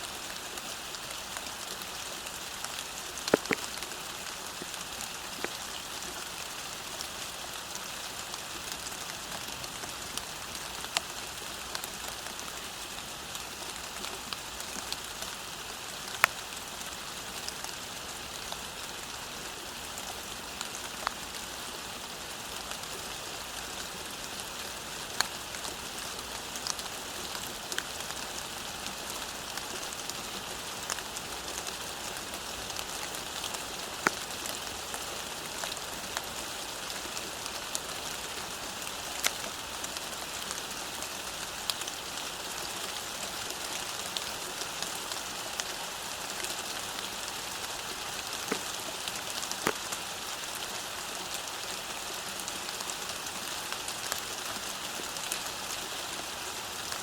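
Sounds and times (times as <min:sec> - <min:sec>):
rain falling on road: 0:00.0 - 0:57.0
raindrops ticking nearby: 0:00.0 - 0:57.0.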